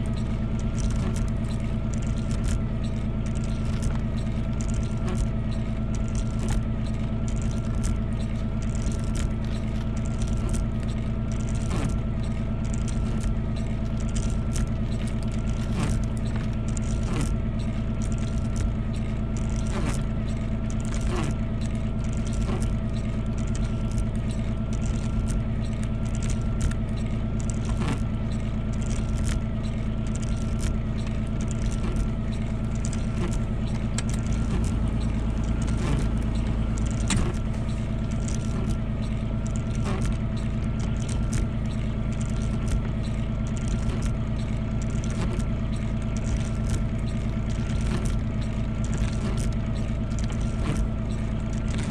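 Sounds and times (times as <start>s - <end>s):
vehicle engine running: 0.0s - 51.9s
wavering high whine: 0.0s - 51.9s.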